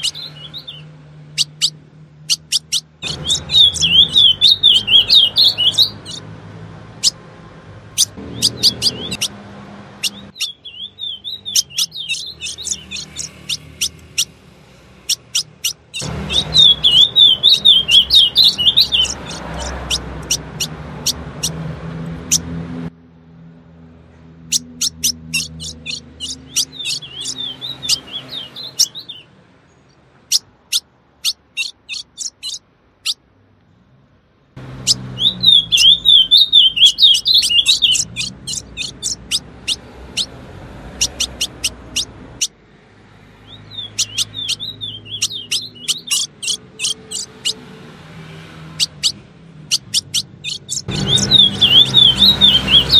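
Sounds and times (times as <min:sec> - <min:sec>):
bird chip notes and twittering: 0:00.0 - 0:07.2, 0:07.8 - 0:22.6, 0:24.4 - 0:33.2, 0:34.6 - 0:42.6, 0:43.4 - 0:47.7, 0:48.6 - 0:52.9.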